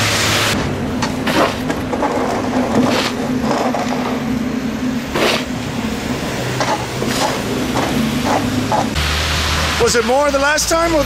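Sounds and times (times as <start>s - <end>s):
street traffic noise: 0.0s - 11.0s
vehicle engine humming: 0.0s - 11.0s.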